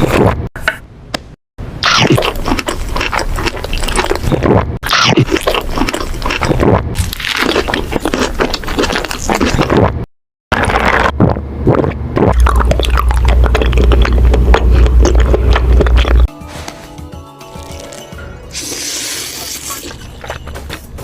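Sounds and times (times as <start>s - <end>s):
crunchy food chewing: 1.8s - 10.0s, 10.6s - 16.6s, 17.5s - 21.0s.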